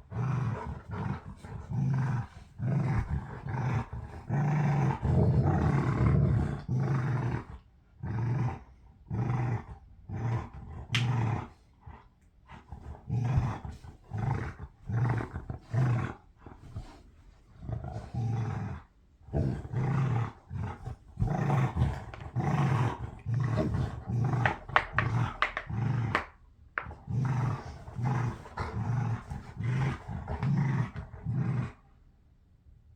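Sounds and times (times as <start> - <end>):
dogs growling: 0.0 - 31.8.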